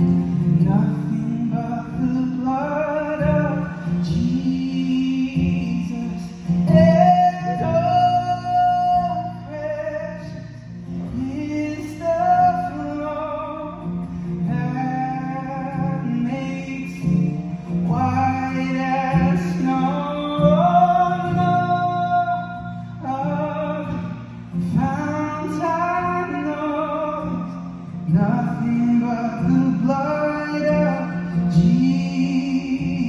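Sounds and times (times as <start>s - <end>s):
acoustic guitar strumming: 0.0s - 33.0s
man singing into a microphone: 0.0s - 33.0s.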